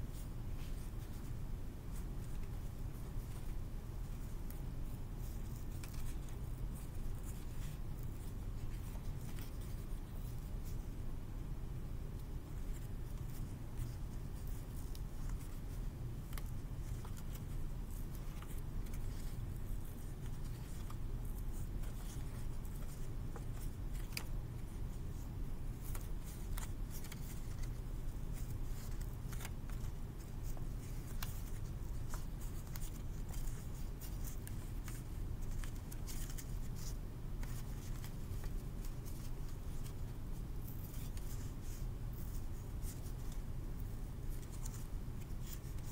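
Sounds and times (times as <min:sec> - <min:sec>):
steady low hum: 0:00.0 - 0:45.9
paper folding and crinkling: 0:00.1 - 0:10.9, 0:12.2 - 0:45.9.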